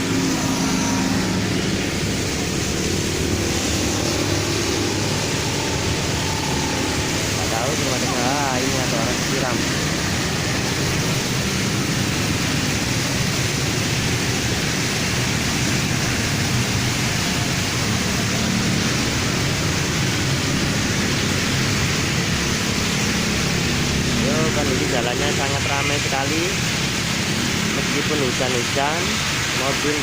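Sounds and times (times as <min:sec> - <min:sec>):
heavy rain hissing: 0:00.0 - 0:30.0
traffic on wet road: 0:00.0 - 0:30.0.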